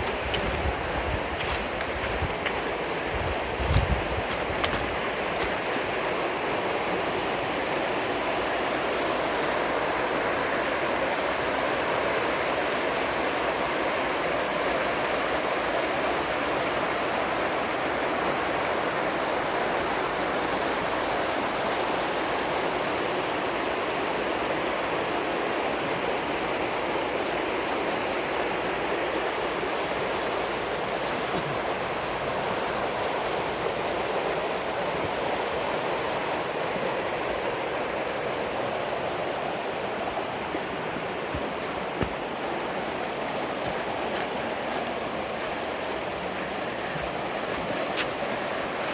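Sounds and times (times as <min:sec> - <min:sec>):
river rapids rushing: 0:00.0 - 0:48.9.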